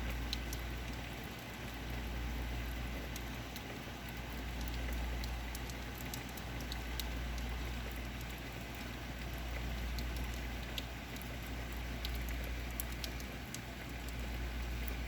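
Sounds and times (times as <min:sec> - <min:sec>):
raindrops ticking on surfaces: 0:00.0 - 0:15.0.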